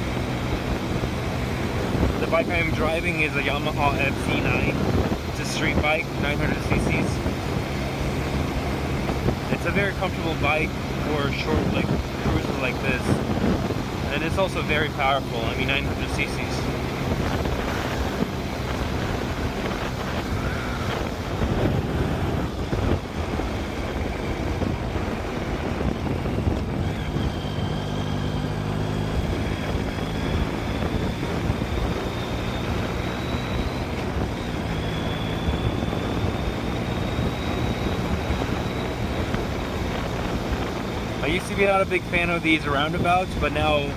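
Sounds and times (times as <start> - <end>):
motorcycle engine running: 0.0 - 43.9
wind noise on microphone: 0.0 - 43.9.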